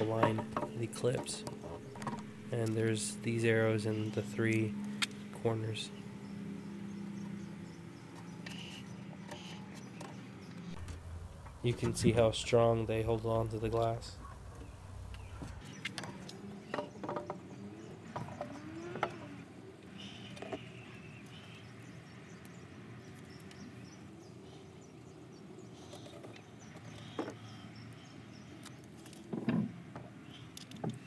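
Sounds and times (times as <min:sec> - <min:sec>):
faint outdoor background noise: 0:00.0 - 0:31.0.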